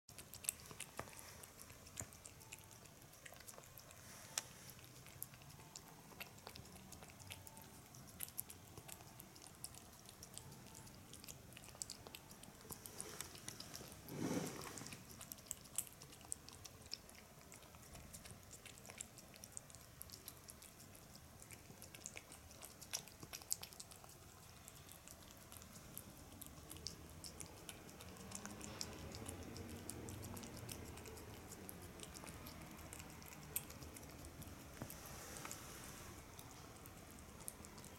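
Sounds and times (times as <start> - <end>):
cat licking and chewing: 0.1 - 37.9.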